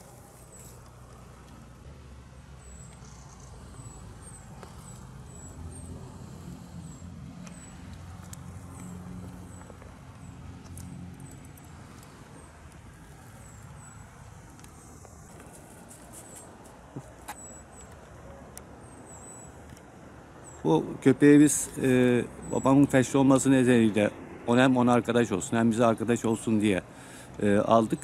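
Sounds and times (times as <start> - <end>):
passing vehicle rumble: 0.0 - 28.0.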